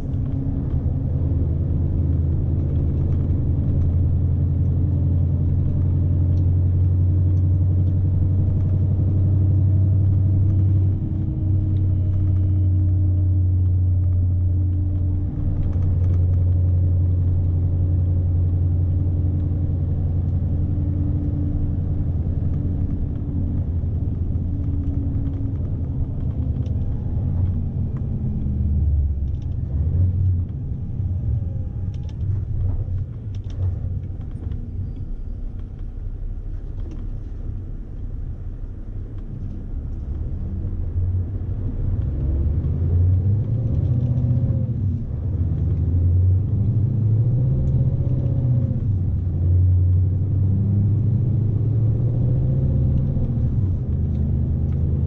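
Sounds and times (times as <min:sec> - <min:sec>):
diesel truck engine droning: 0:00.0 - 0:55.0
road and tyre rumble: 0:00.0 - 0:55.0.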